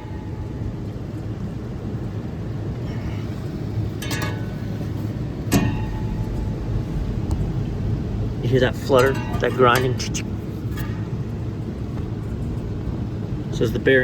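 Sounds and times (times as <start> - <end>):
fan motor humming and grinding: 0.0 - 14.0.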